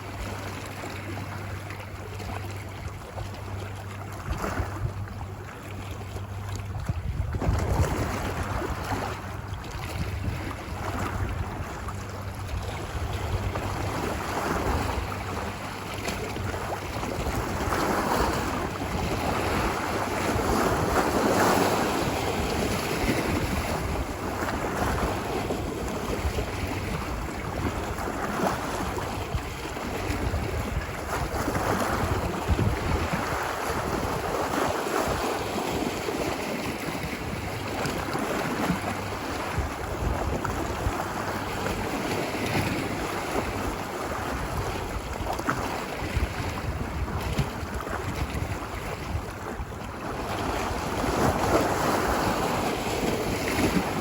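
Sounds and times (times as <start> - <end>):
low wind rumble: 0.0 - 54.0
ocean waves on a beach: 0.0 - 54.0.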